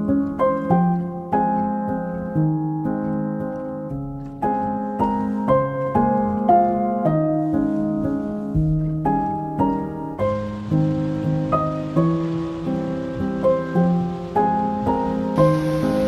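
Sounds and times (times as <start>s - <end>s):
piano chords and notes: 0.0s - 16.0s.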